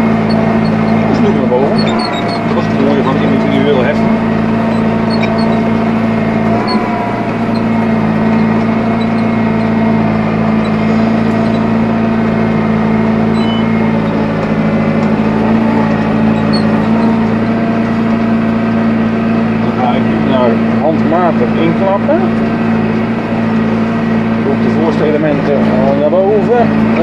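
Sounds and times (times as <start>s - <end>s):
tractor engine humming: 0.0s - 27.0s.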